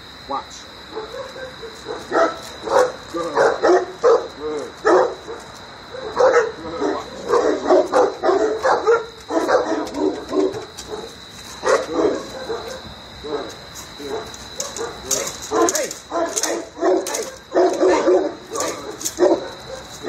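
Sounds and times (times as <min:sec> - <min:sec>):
puppy barking: 0:00.9 - 0:20.0.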